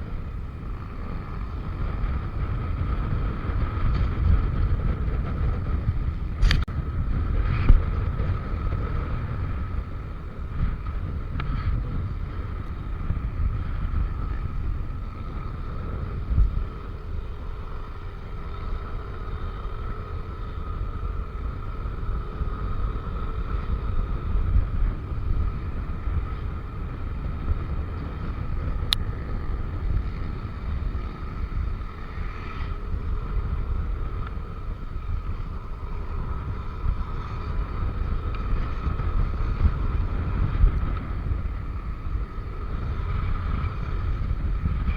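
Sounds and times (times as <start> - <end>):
constant whine: 0.0 - 44.9
scooter engine drone: 0.0 - 44.9
wind buffeting microphone: 0.0 - 44.9.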